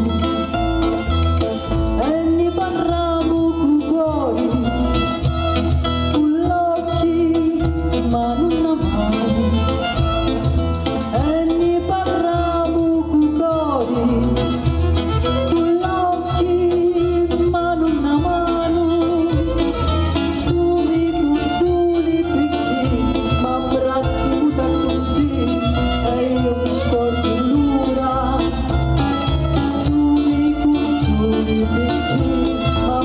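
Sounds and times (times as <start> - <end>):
acoustic guitars: 0.0 - 33.0
violin: 0.0 - 33.0
woman singing: 1.9 - 33.0.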